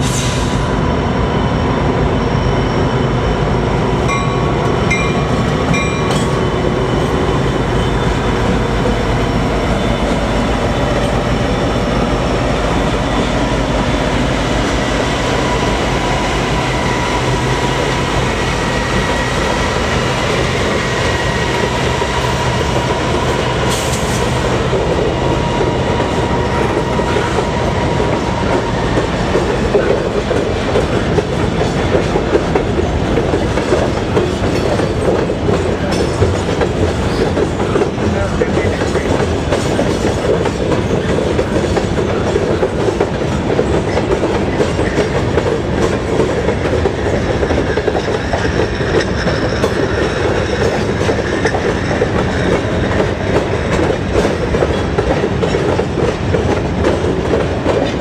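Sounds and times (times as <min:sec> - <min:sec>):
diesel locomotives passing: 0:00.0 - 0:58.0
train wheels clicking over rail joints: 0:04.1 - 0:58.0.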